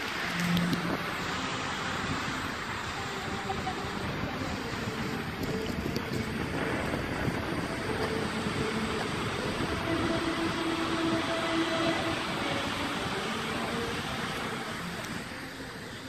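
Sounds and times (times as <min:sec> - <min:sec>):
fountain water jets spraying: 0:00.0 - 0:16.0
wind buffeting microphone: 0:00.0 - 0:16.0.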